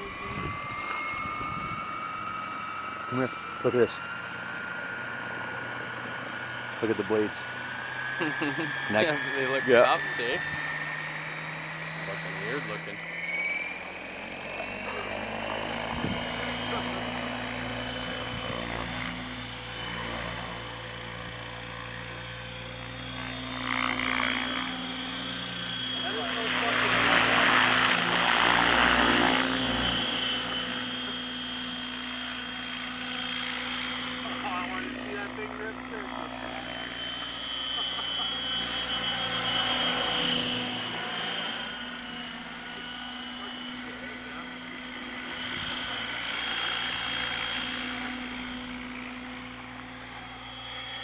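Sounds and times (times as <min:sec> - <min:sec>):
model helicopter rotor hum and whine: 0:00.0 - 0:51.0.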